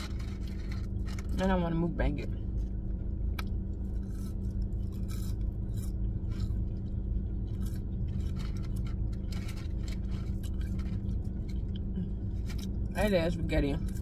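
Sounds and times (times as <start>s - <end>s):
crisp chewing: 0.0s - 1.5s, 2.4s - 13.0s
car engine hum: 0.0s - 14.0s.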